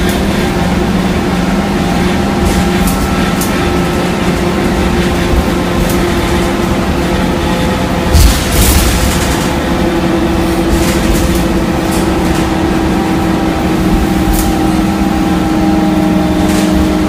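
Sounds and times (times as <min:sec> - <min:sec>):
bus engine drone: 0:00.0 - 0:17.0
tyre and road noise: 0:00.0 - 0:17.0.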